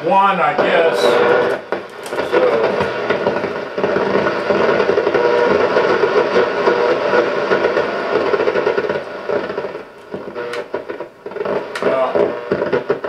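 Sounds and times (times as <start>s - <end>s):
shortwave radio static: 0.0s - 13.0s.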